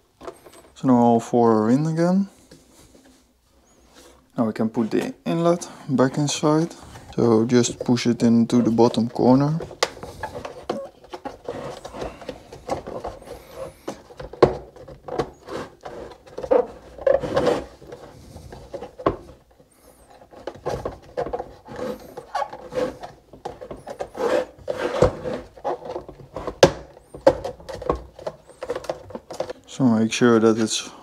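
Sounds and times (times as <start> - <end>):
rubber boot rubbing and creaking: 2.5 - 30.8.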